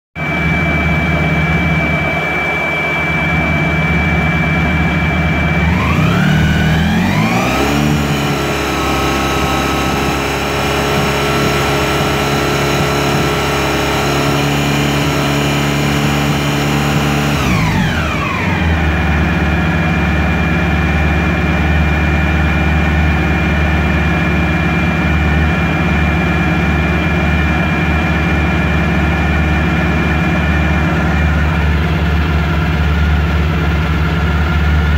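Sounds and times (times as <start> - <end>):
motorcycle engine idling and revving: 0.2 - 34.9.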